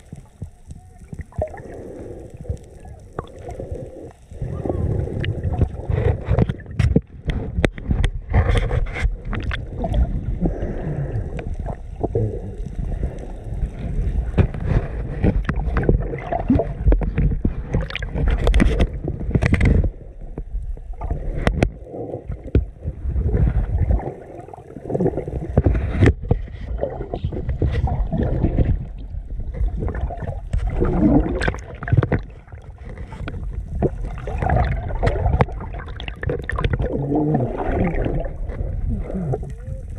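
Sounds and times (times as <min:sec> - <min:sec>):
underwater rumble of moving water: 0:00.0 - 0:39.9
water gurgling: 0:00.0 - 0:39.9.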